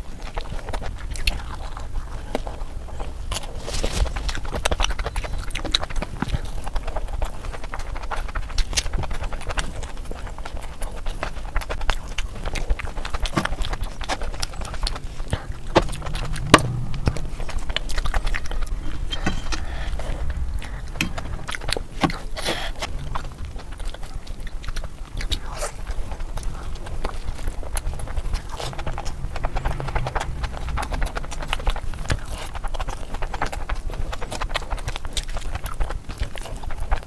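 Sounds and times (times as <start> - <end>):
person chewing wetly: 0.0 - 37.0.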